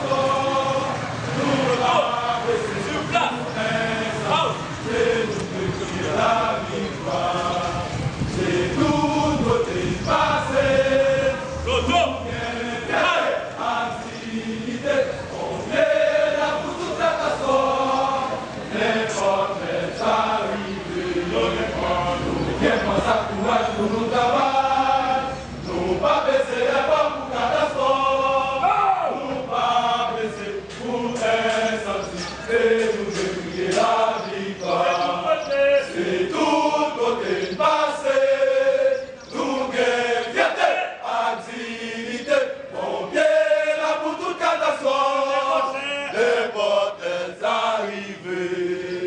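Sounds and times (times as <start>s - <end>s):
men chanting in unison: 0.0s - 49.0s.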